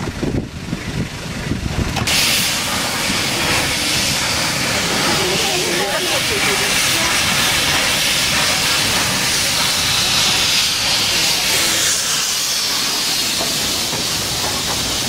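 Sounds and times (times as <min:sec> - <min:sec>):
steam locomotive hissing: 0:01.8 - 0:15.0.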